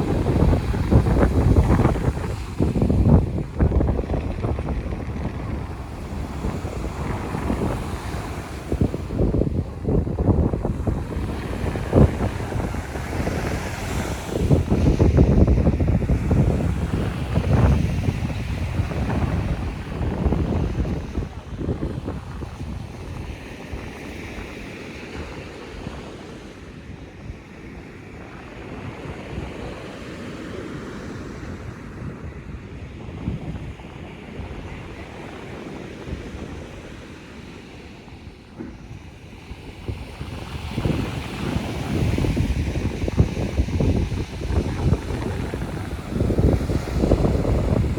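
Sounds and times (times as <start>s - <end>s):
surf washing on beach: 0.0s - 47.9s
wind buffeting microphone: 0.0s - 47.9s.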